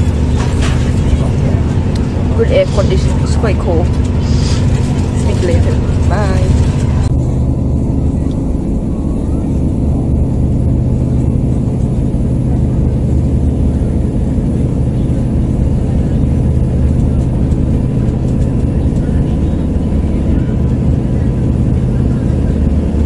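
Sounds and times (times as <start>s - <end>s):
constant hum: 0.0s - 23.0s
train rumbling on track: 0.0s - 23.0s.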